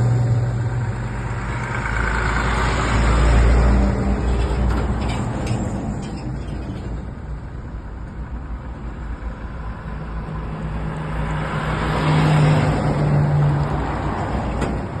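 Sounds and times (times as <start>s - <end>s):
heavy truck passing: 0.0s - 15.0s.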